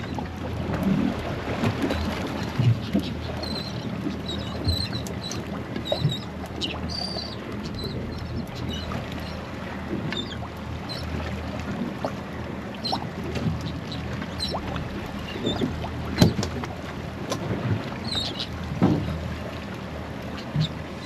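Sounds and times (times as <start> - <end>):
water lapping against hull: 0.0 - 21.0.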